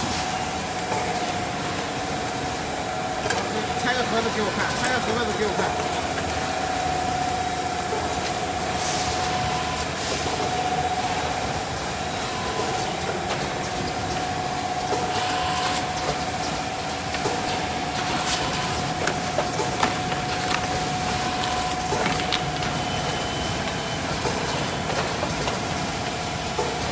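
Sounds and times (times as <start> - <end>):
constant mechanical whine: 0.0 - 26.9
packing machinery running: 0.0 - 26.9.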